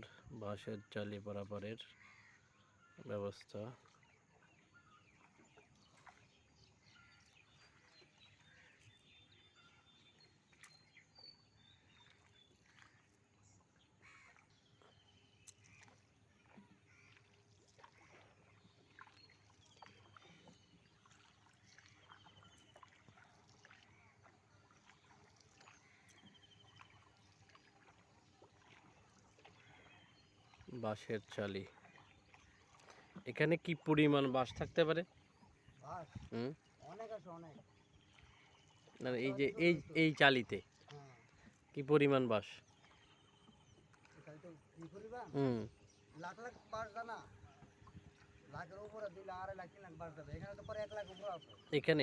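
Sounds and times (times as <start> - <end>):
water lapping against boat: 0.0 - 52.0.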